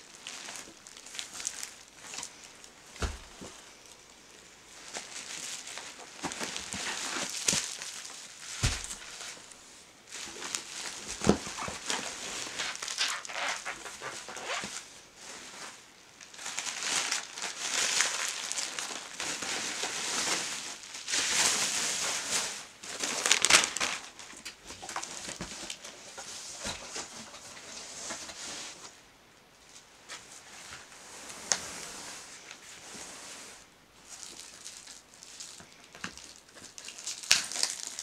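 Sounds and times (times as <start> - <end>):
bubble wrap crinkling: 0.0 - 28.9, 30.7 - 38.0.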